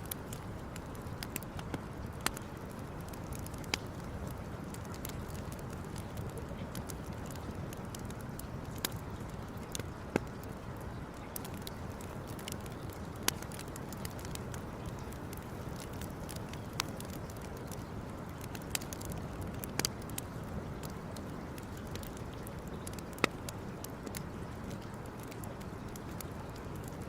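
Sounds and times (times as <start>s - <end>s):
campfire crackling: 0.0s - 27.0s
fire popping: 0.0s - 27.0s.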